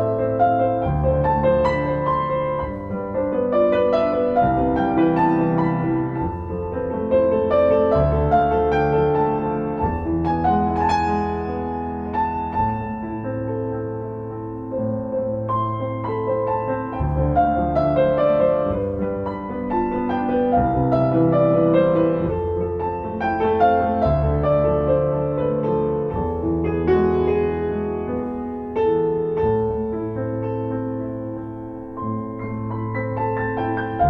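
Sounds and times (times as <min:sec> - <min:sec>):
piano piece: 0:00.0 - 0:34.0.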